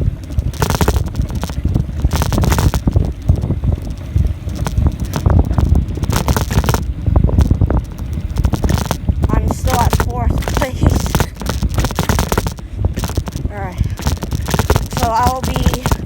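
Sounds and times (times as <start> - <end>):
bicycle crackling and knocking: 0.0 - 16.0
wind buffeting microphone: 0.0 - 16.0.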